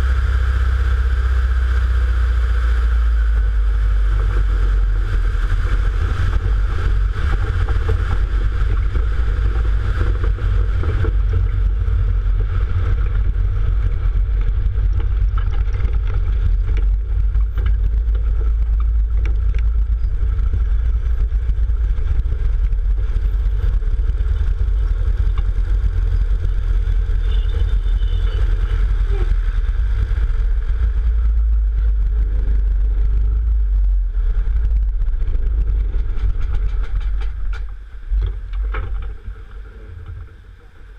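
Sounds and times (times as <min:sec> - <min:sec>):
propeller plane engine running: 0:00.0 - 0:40.9
wind rumble on microphone: 0:00.0 - 0:40.9.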